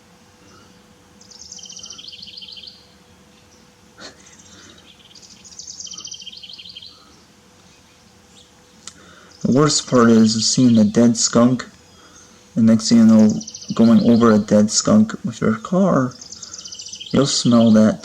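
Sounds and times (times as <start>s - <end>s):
songbird trilling: 1.2s - 18.0s.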